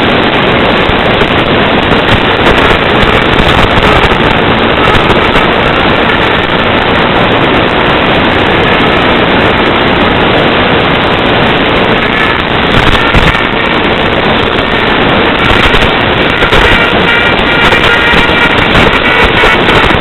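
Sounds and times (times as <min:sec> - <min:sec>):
loud static hiss: 0:00.0 - 0:20.0.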